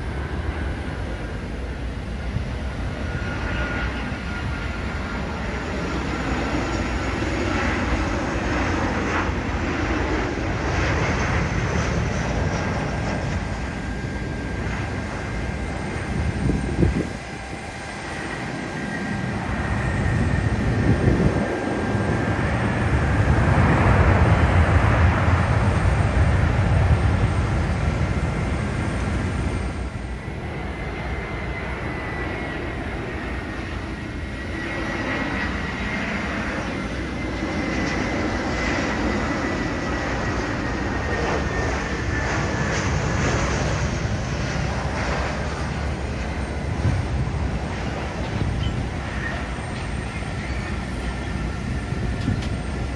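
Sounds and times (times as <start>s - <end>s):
high engine whine: 0.0s - 52.9s
jet engines rumbling: 0.0s - 52.9s.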